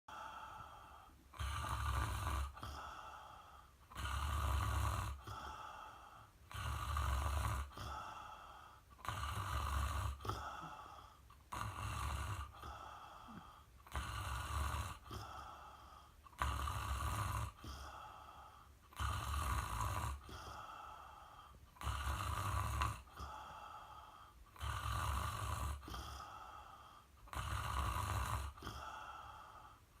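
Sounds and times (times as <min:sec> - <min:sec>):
ferret snoring: 0:00.1 - 0:30.0.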